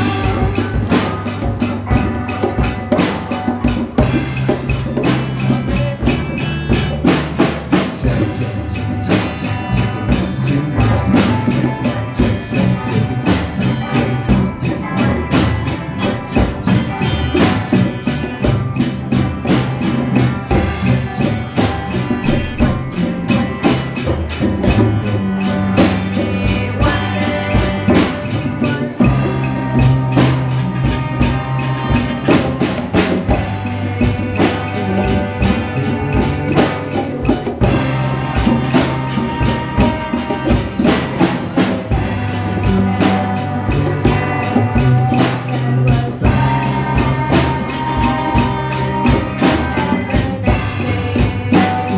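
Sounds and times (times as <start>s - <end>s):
djembe hand drums: 0.0s - 51.9s
drum kit beat: 0.0s - 51.9s
electric bass: 0.0s - 51.9s
electric guitar: 0.0s - 51.9s.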